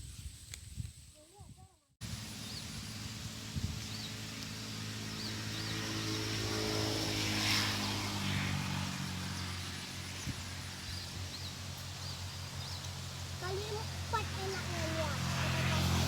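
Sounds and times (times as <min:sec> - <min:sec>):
engine passing by: 0:02.0 - 0:16.0.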